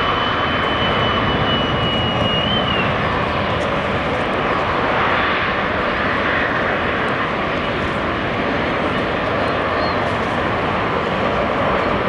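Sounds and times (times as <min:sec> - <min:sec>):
distant jet engines at takeoff: 0:00.0 - 0:12.0.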